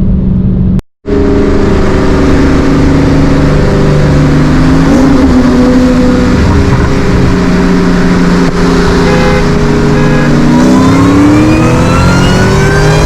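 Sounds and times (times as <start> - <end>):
car engine running at full throttle: 0.0 - 13.0.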